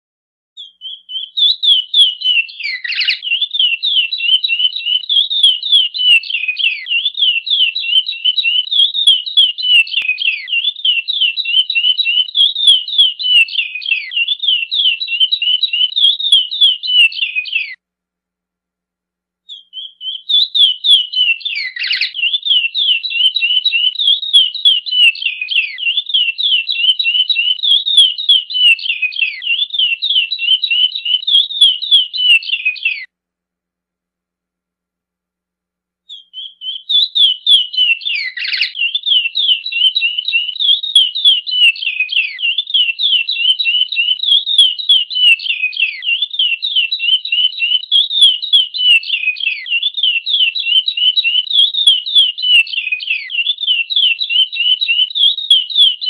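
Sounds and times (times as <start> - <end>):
finch singing: 0.6 - 17.8, 19.5 - 33.1, 36.1 - 56.0.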